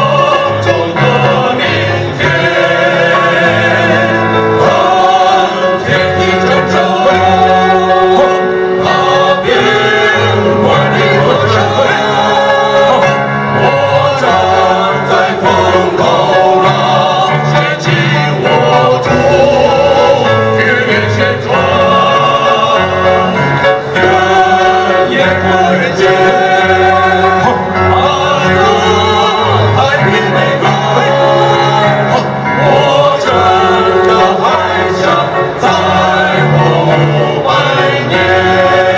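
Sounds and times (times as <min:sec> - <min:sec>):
male vocal group singing in harmony: 0:00.0 - 0:38.9.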